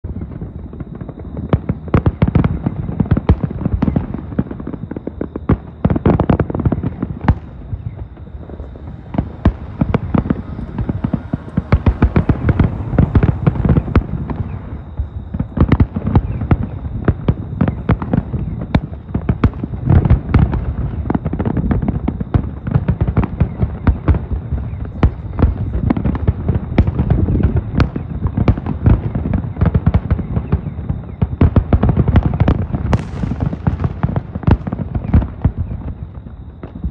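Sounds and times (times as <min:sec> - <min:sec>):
fireworks bangs and booms: 0:00.0 - 0:36.9.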